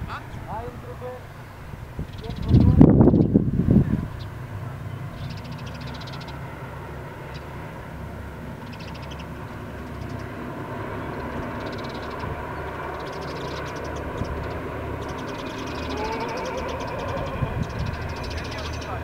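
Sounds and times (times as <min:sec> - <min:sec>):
birds chirping: 0:00.0 - 0:19.0
distant diesel locomotive drone: 0:00.0 - 0:19.0.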